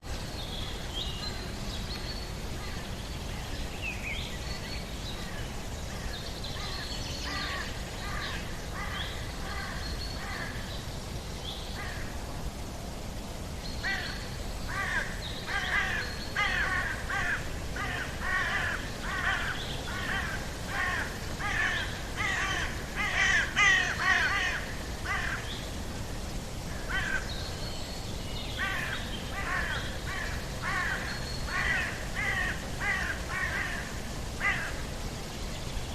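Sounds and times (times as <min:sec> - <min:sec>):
steady low background noise: 0:00.0 - 0:35.9
birds calling: 0:00.2 - 0:12.2, 0:13.6 - 0:35.9.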